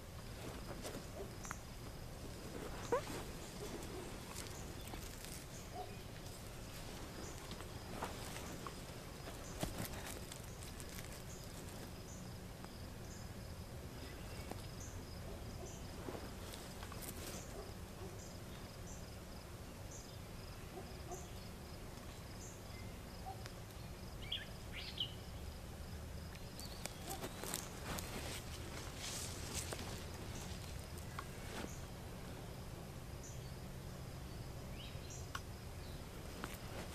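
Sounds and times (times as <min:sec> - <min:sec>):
crickets and insects trilling: 0:00.0 - 0:36.9.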